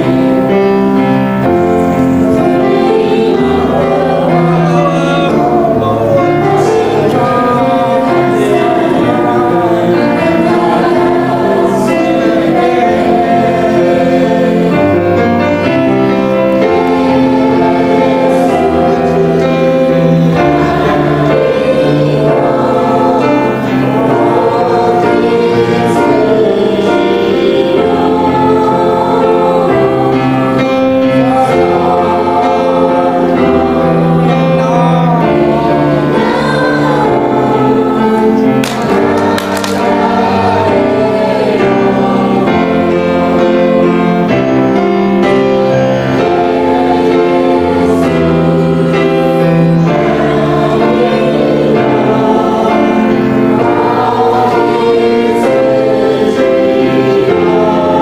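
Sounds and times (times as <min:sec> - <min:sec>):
group singing worship song: 0:00.0 - 0:58.0
musical accompaniment with bass: 0:00.0 - 0:58.0.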